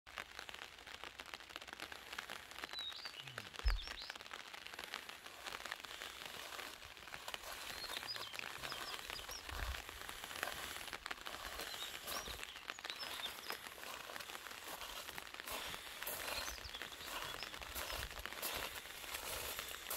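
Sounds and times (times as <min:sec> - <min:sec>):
crackling hiss: 0:00.1 - 0:19.9
small birds chirping: 0:02.6 - 0:19.9.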